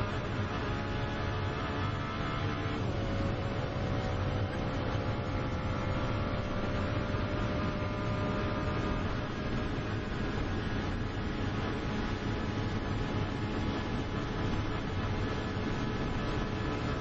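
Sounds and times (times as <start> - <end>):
race car engine at full throttle: 0.0 - 17.0.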